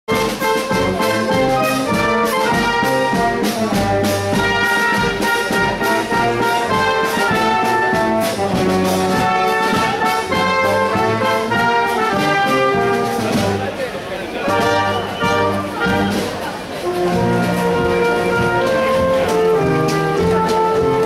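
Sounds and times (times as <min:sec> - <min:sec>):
brass band playing: 0:00.1 - 0:21.0.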